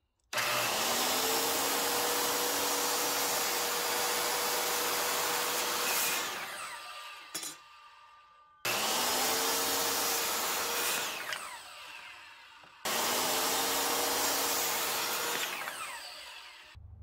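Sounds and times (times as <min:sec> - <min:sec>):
circular saw cutting wood: 0:00.3 - 0:16.8.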